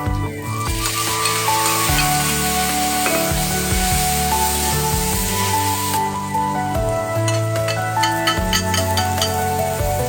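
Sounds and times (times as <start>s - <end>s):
background music with held notes: 0.0s - 10.0s
food sizzling in a pan: 0.0s - 10.0s.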